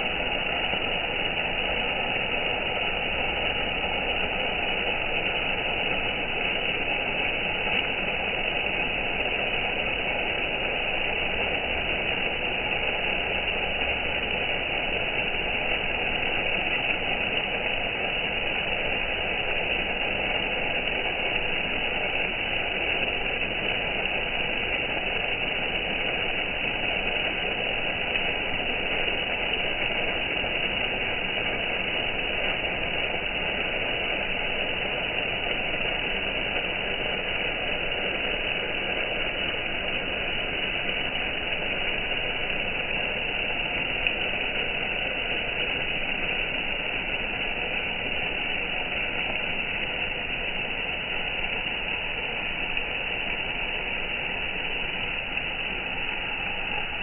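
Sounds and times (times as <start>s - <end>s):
sprinkler spray hissing: 0.0s - 57.0s.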